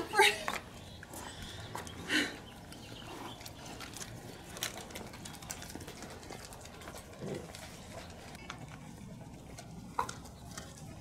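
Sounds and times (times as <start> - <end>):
dogs crunching kibble: 0.4 - 11.0.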